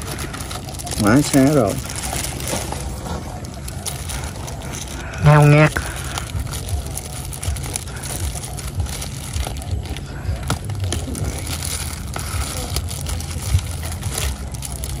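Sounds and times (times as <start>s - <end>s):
shears crunching crispy pork skin: 0.0s - 15.0s.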